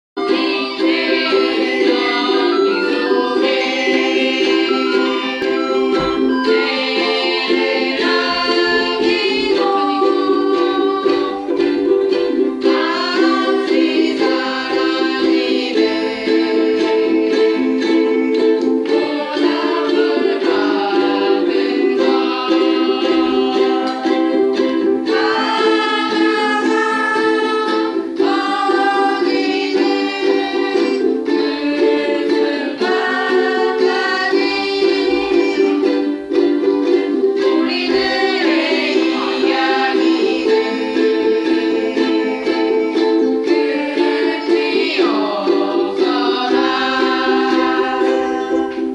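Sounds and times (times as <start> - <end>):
ukulele playing: 0.2 - 48.9.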